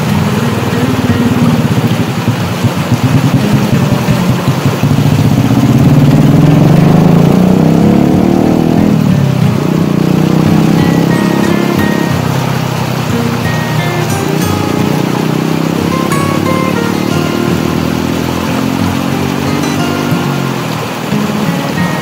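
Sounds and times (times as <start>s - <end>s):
motor engine revving: 0.0s - 22.0s
water rushing: 0.0s - 22.0s.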